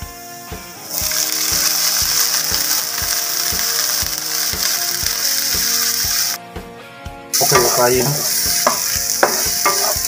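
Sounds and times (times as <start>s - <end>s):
background music with steady beat: 0.0s - 10.0s
vegetables sizzling in hot oil: 0.2s - 6.4s, 7.3s - 10.0s.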